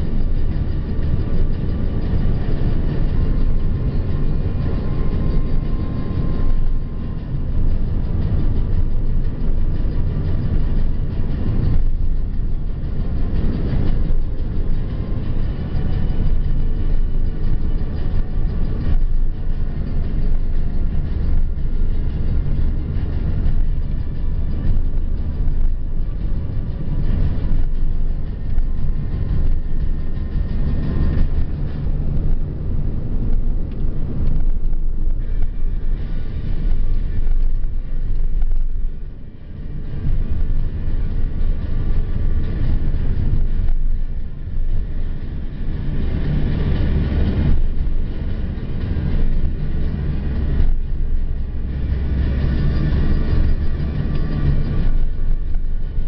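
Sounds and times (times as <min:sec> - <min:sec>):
car driving on highway: 0:00.0 - 0:56.0.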